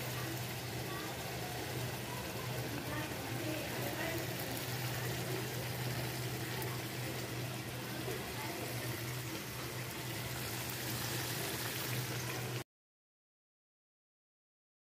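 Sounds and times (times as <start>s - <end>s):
curry simmering and sizzling: 0.0s - 12.6s.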